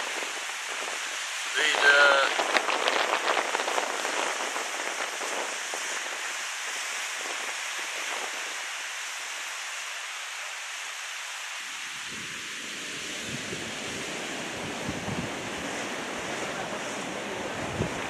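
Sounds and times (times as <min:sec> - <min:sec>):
foam crackling and fizzing: 0:00.0 - 0:18.0
surf on rocky shore: 0:00.0 - 0:18.0.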